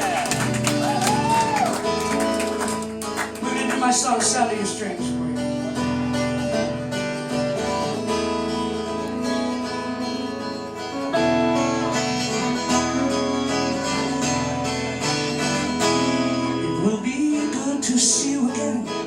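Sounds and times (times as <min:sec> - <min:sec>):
acoustic guitar strumming chords: 0:01.8 - 0:19.0.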